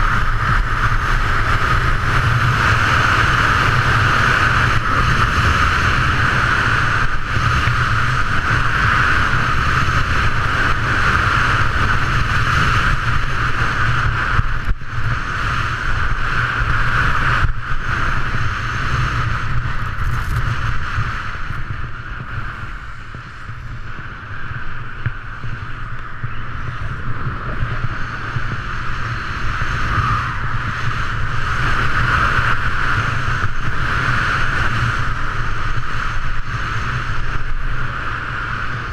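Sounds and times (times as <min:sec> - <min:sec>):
wind rushing over camera: 0:00.0 - 0:38.9.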